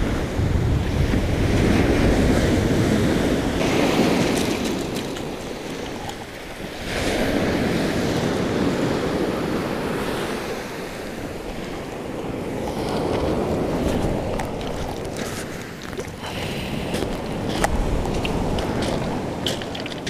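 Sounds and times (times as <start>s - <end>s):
surf breaking on stony beach: 0.0s - 20.0s
wind buffeting microphone: 0.0s - 20.0s.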